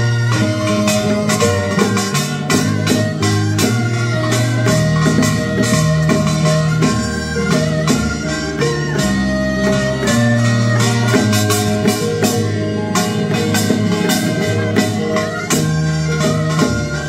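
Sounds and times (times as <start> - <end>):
percussion beat: 0.0 - 17.0
sustained pitched notes: 0.0 - 17.0.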